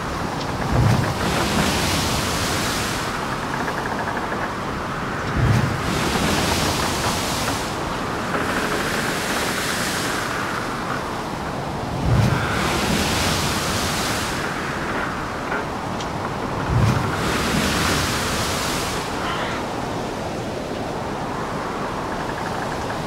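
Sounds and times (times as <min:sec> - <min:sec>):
surf washing on gravel beach: 0:00.0 - 0:03.9, 0:04.5 - 0:20.4.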